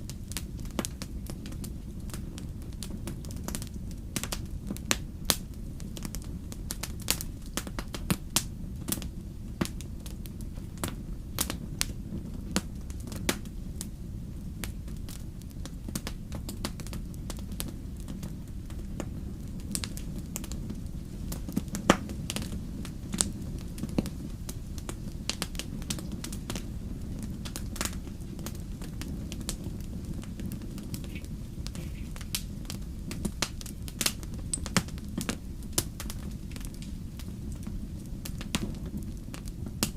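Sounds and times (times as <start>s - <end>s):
campfire flames rumbling: 0.0s - 39.9s
wood crackling and popping: 0.0s - 39.9s.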